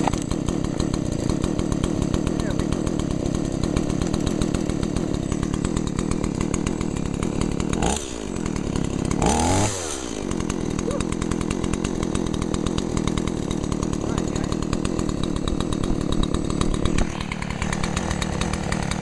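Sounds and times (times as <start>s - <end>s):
chainsaw revving and idling: 0.0s - 19.0s.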